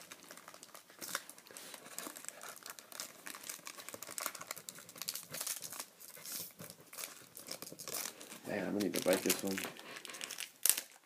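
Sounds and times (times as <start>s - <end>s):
wrapper crinkling and tearing: 0.0s - 11.0s.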